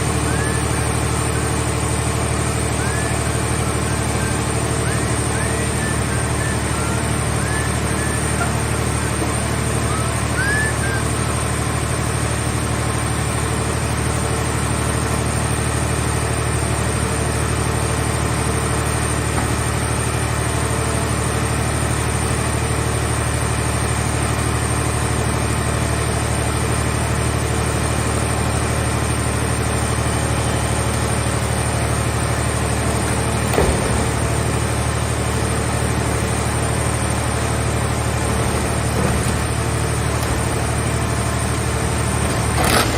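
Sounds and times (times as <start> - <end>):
heavy engine humming: 0.0 - 42.9.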